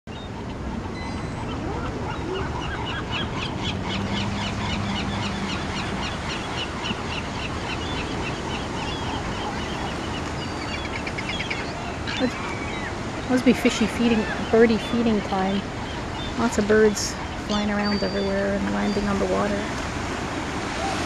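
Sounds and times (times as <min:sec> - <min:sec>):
seabirds squawking: 0:00.1 - 0:19.8
wind: 0:00.1 - 0:21.0
surf: 0:00.2 - 0:21.0.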